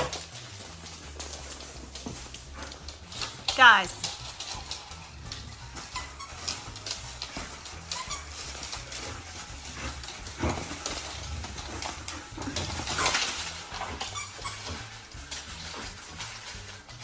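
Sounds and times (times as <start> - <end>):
chew toys clattering: 0.0 - 17.0
dogs mouthing and snuffling: 0.0 - 17.0
scraping rustles: 0.0 - 17.0.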